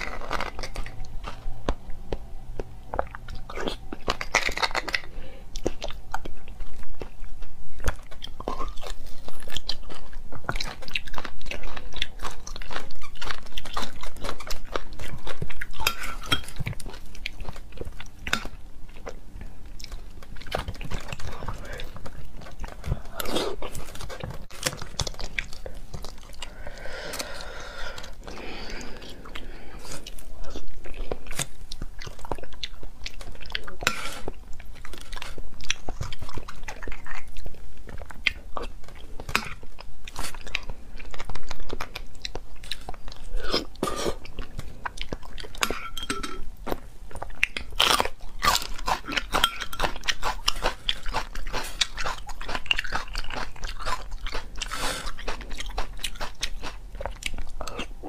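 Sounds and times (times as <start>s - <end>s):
chewing and wet mouth sounds: 0.0s - 58.0s.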